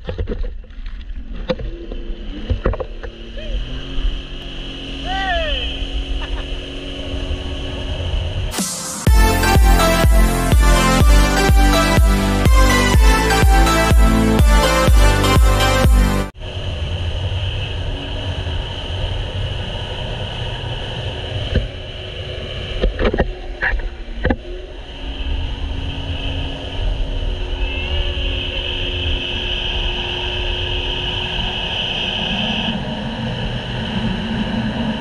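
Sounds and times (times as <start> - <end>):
jet ski engine whine: 1.7 - 35.0.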